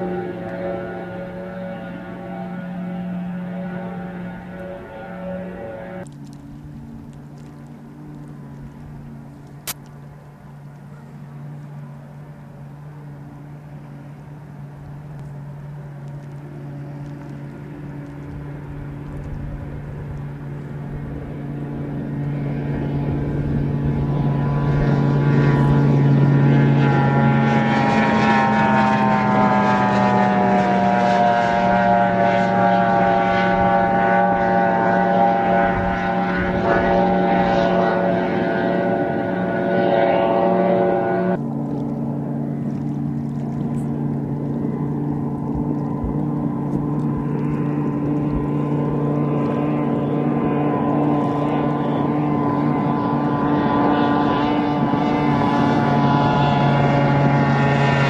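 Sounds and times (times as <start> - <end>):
outboard motor at high speed: 0.0 - 58.0.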